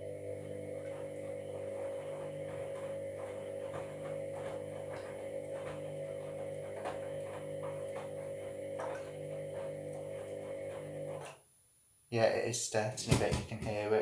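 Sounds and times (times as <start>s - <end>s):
washing machine whine and hum: 0.0s - 11.4s.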